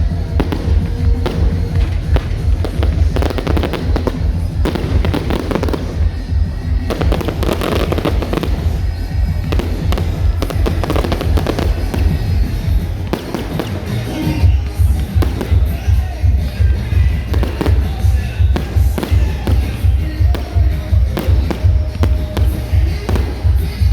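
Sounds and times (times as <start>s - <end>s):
fireworks crackling and banging: 0.0s - 23.9s
loud music with heavy bass: 0.0s - 23.9s.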